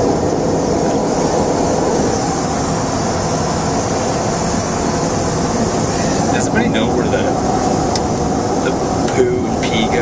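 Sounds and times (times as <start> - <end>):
airliner cabin engine rush: 0.0 - 10.0.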